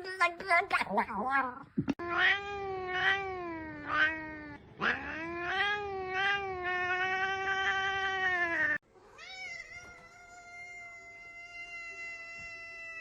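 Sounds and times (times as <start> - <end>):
cat yowling: 2.0 - 13.0.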